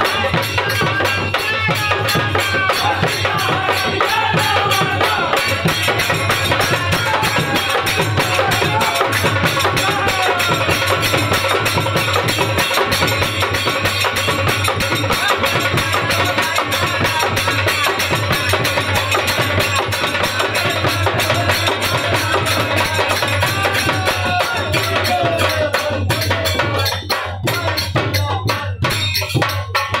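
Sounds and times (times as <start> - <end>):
folk song on dholak and harmonium: 0.0 - 30.0
people singing: 0.0 - 30.0
sharp percussive strikes: 0.0 - 30.0.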